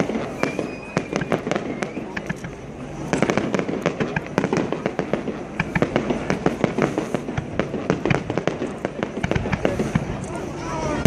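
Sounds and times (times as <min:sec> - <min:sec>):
fireworks bangs and crackling pops: 0:00.0 - 0:11.0.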